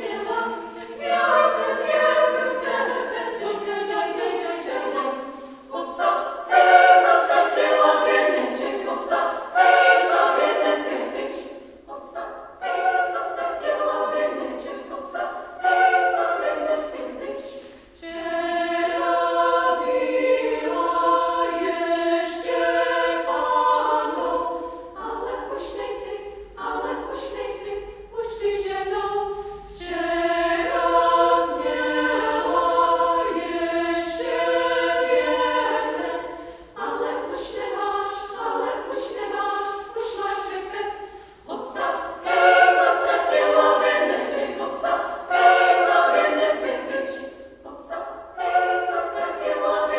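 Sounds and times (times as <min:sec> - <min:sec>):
women's choir singing a cappella: 0:00.0 - 0:49.9.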